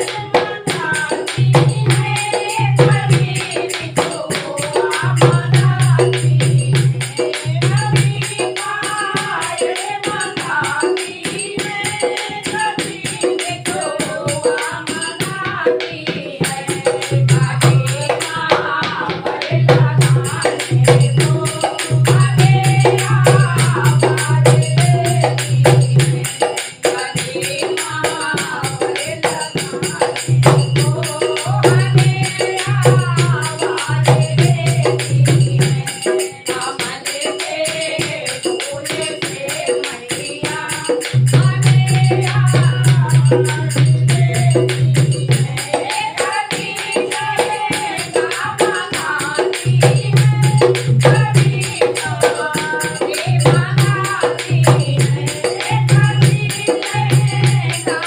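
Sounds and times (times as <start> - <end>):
fast hand percussion: 0.0 - 58.0.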